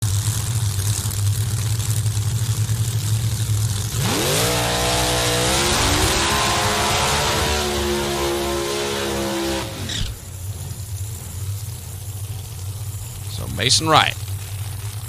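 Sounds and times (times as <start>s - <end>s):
drag car engine idling and revving: 0.0s - 15.0s.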